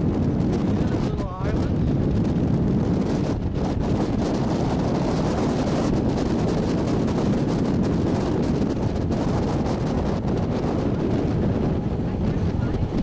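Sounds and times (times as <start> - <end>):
boat engine running: 0.0 - 13.0
water noise: 0.0 - 13.0
wind rushing over microphone: 0.0 - 13.0.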